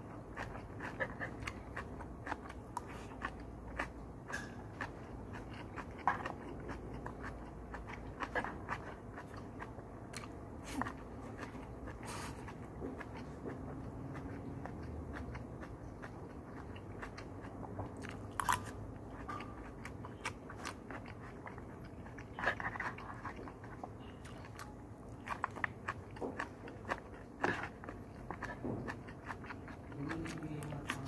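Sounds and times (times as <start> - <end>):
chewing and crunching food: 0.0 - 31.0.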